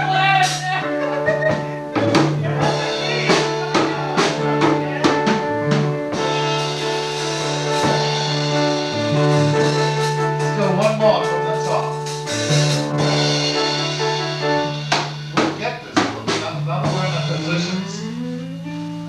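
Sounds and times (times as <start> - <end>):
drum kit strikes: 0.0 - 18.5
bass line: 0.0 - 19.0
held keyboard chords: 0.0 - 19.0.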